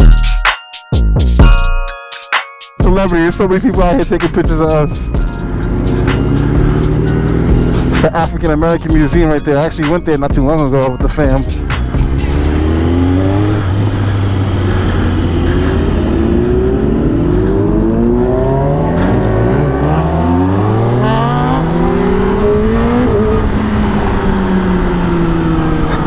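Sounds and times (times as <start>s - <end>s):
motorcycles accelerating: 3.6s - 9.8s, 11.0s - 26.0s.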